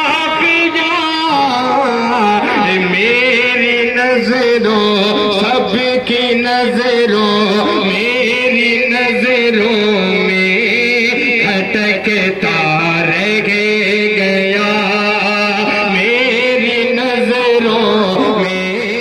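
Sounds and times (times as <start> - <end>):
man singing over loudspeakers: 0.0 - 19.0.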